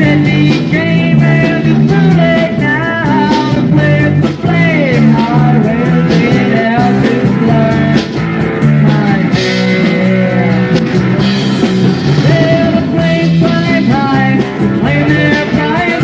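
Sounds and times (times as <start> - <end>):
bass guitar: 0.0 - 16.0
drums: 0.0 - 16.0
electric guitar: 0.0 - 16.0.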